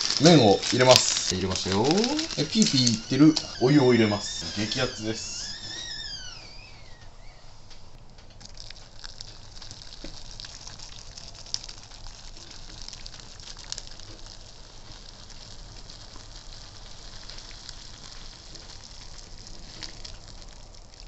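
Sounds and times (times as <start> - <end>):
water pouring onto dry noodles: 0.0 - 5.4, 8.4 - 21.0.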